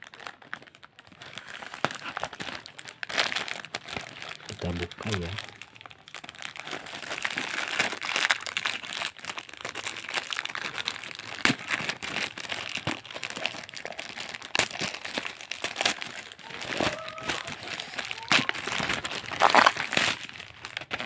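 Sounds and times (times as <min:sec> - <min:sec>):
plastic wrapping crinkling: 0:00.0 - 0:21.0.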